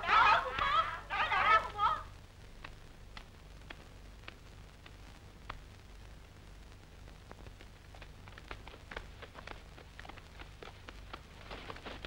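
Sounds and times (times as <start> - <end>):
film crackle clicks and pops: 0.0 - 12.0
low steady hum: 0.0 - 12.0.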